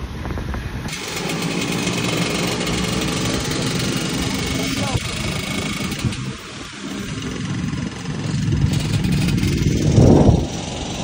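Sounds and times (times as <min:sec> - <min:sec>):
rush of riding noise: 0:00.0 - 0:11.0
motorcycle engine accelerating: 0:00.6 - 0:11.0.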